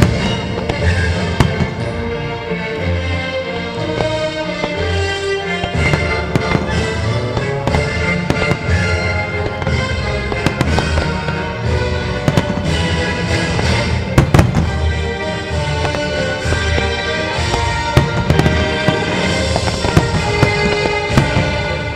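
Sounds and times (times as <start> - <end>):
fireworks banging and crackling: 0.0 - 21.9
show music: 0.0 - 21.9.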